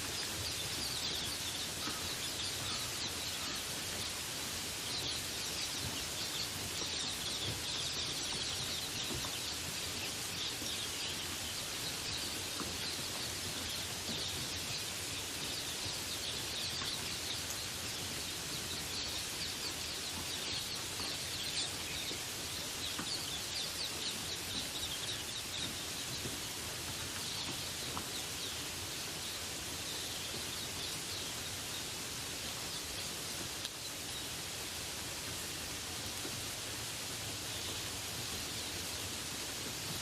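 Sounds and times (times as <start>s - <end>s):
birds chirping: 0.0s - 34.6s
steady rain hiss: 0.0s - 40.0s.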